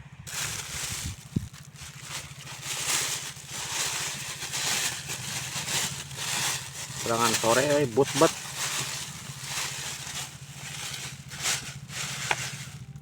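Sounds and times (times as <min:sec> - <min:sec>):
small boat engine humming: 0:00.0 - 0:13.0.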